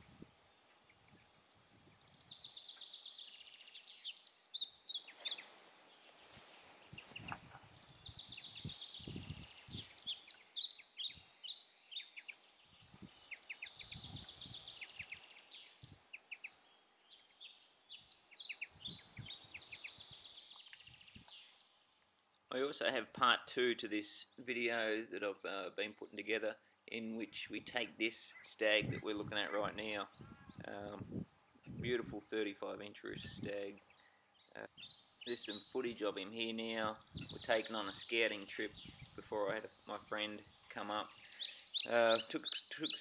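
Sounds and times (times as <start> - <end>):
small bird singing: 0.0 - 23.3, 24.2 - 43.0.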